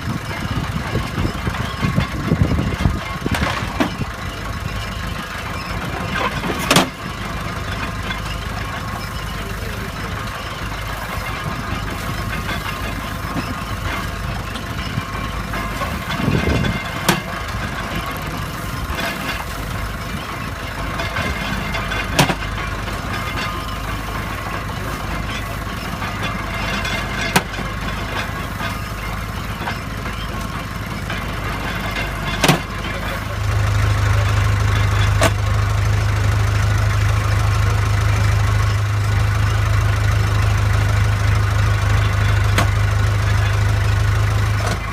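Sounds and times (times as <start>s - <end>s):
deep steady hum: 0.0s - 44.9s
engine running: 0.0s - 44.9s.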